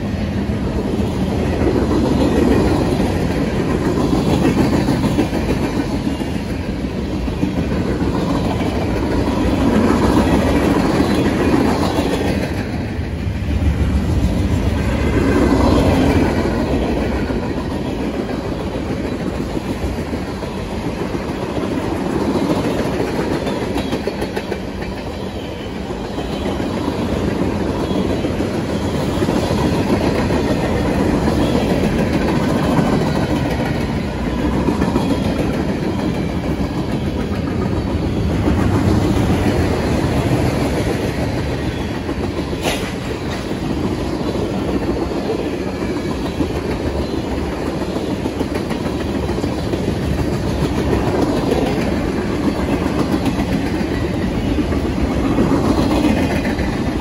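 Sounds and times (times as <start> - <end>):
freight train cars rolling: 0.0 - 57.0
steel wheels clacking on rail joints: 0.0 - 57.0.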